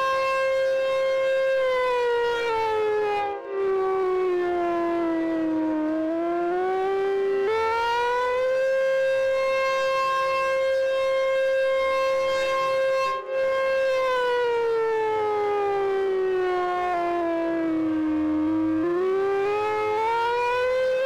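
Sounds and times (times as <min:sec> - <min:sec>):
wavering warning siren: 0:00.0 - 0:21.0.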